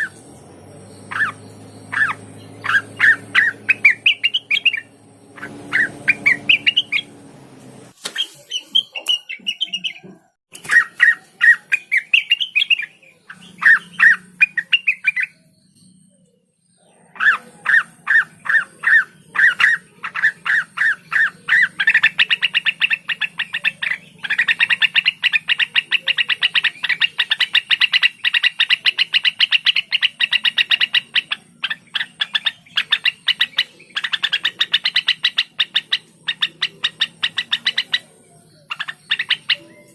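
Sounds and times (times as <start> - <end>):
bird singing chattering notes: 0.0 - 39.9.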